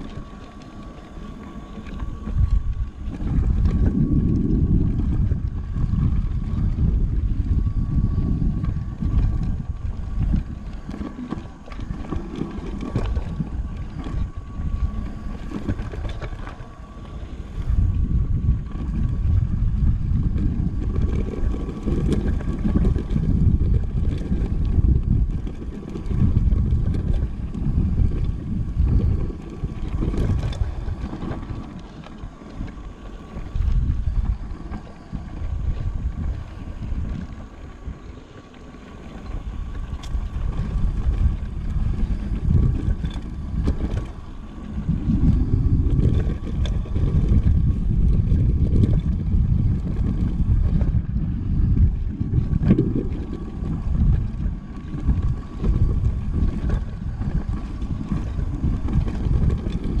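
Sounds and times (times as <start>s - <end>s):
tyres rumbling on rough ground: 0.0s - 60.0s
wind buffeting microphone: 0.0s - 60.0s.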